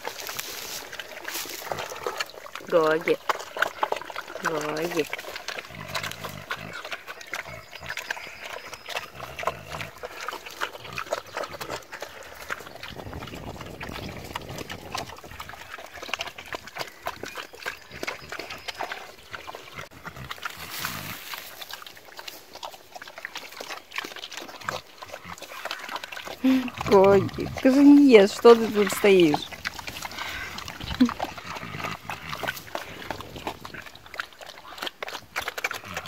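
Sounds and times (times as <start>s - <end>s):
animals chomping feed: 0.0s - 36.0s.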